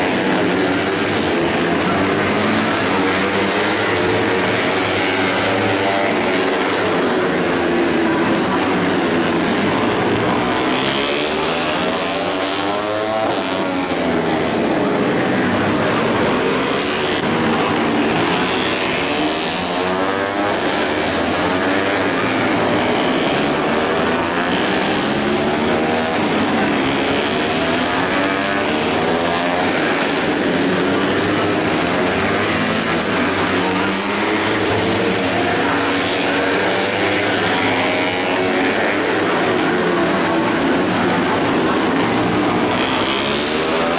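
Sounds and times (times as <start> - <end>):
racing motorcycle engines: 0.0 - 43.9.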